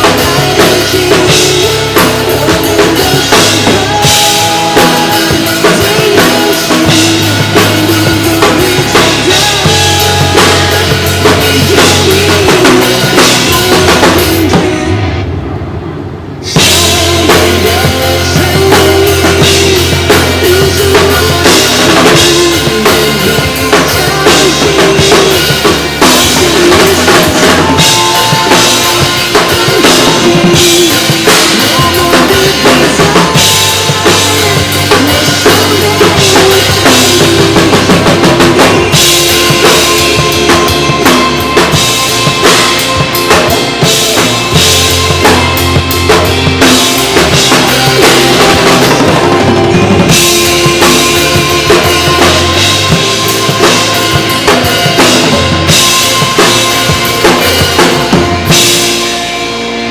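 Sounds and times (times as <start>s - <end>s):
loud pop ballad music: 0.0s - 59.9s.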